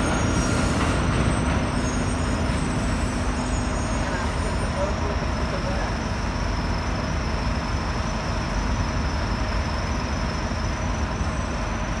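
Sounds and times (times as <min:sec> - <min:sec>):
train rumbling on elevated track: 0:00.0 - 0:12.0.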